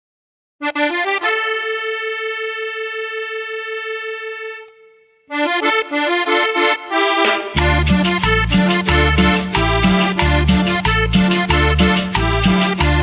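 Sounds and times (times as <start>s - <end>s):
accordion playing: 0.6s - 13.0s.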